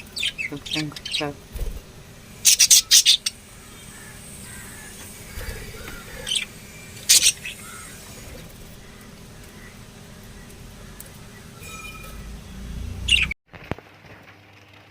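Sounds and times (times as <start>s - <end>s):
lovebirds chirping: 0.0s - 13.4s.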